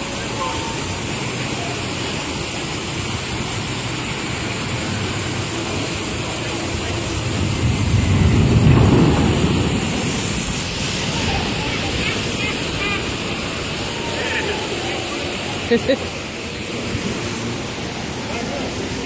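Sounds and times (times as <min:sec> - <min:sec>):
boat landing heavy splash: 0:00.0 - 0:19.0
rushing water: 0:00.0 - 0:19.0.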